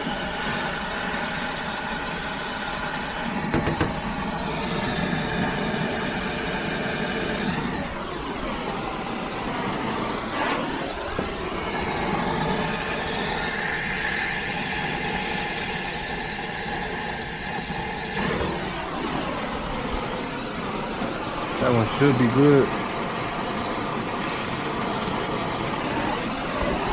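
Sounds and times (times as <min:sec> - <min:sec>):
torch flame hissing: 0:00.0 - 0:26.9.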